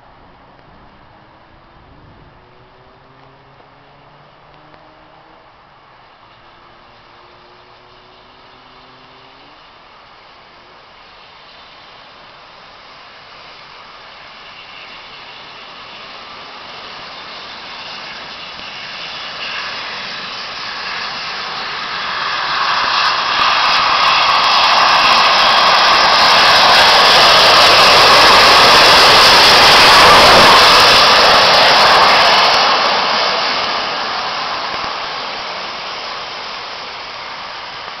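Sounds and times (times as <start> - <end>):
steam train passing: 6.1 - 38.0.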